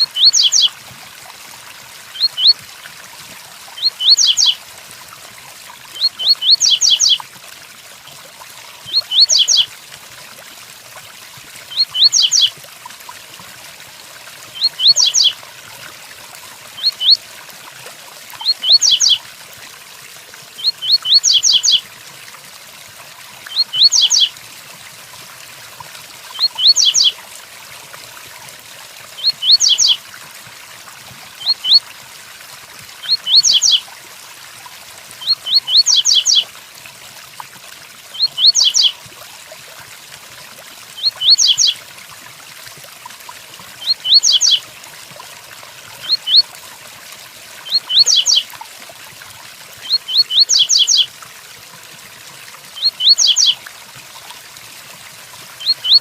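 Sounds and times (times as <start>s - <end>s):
rain: 0.0s - 56.0s.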